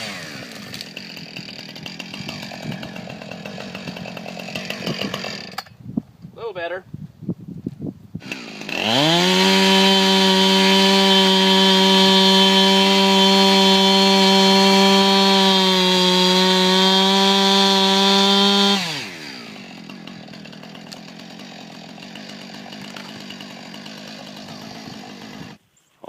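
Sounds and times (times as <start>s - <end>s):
chainsaw revving: 0.0s - 5.7s, 8.2s - 25.6s.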